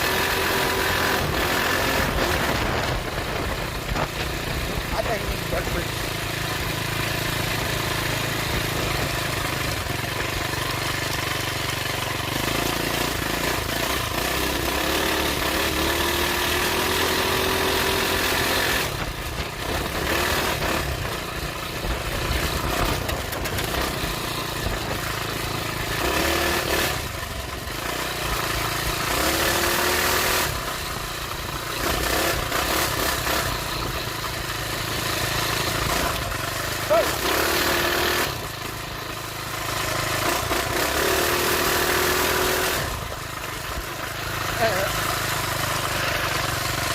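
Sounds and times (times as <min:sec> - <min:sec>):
minibike engine revving: 0:00.0 - 0:46.9.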